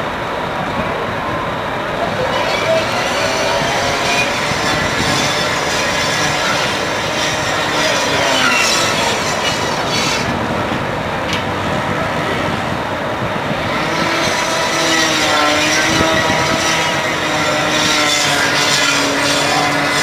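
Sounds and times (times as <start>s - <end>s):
motorized fire equipment drone: 0.0s - 20.0s.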